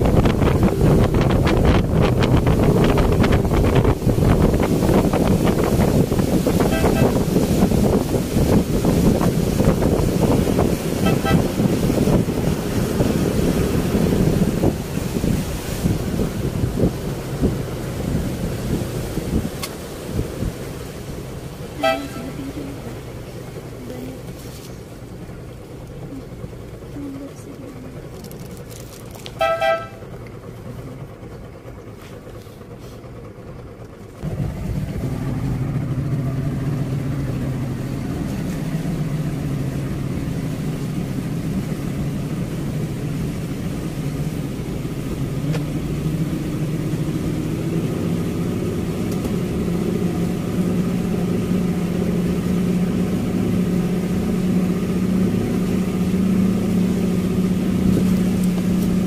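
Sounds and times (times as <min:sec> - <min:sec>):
speedboat engine droning: 0:00.0 - 0:59.0.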